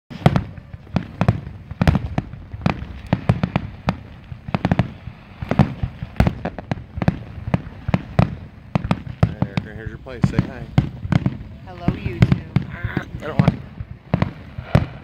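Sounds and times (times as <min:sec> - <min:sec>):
firework shells bursting: 0:00.1 - 0:15.0
low rumble: 0:00.2 - 0:15.0.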